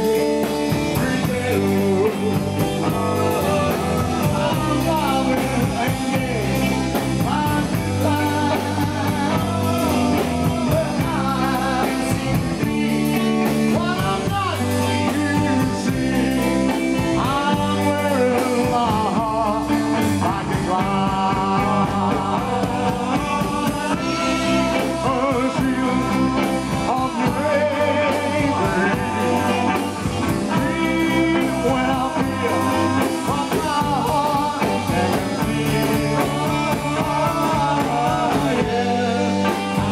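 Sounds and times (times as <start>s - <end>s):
drum kit: 0.0s - 39.9s
electric bass: 0.0s - 39.9s
electric guitars: 0.0s - 39.9s
man singing: 0.0s - 39.9s.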